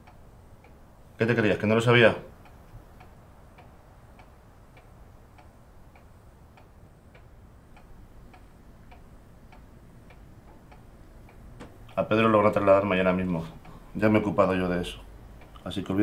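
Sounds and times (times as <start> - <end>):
clock ticking: 0.0 - 16.0
low room hum: 0.0 - 16.0.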